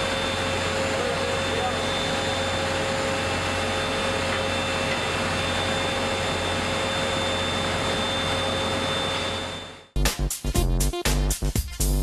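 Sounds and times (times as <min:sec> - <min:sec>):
industrial plant roar: 0:00.0 - 0:09.9
steady whining tones: 0:00.0 - 0:10.0.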